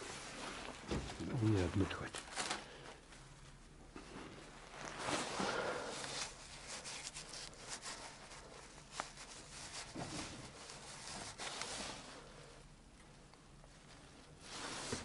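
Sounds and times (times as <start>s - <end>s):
rustling and rubbing handling: 0.0s - 15.0s.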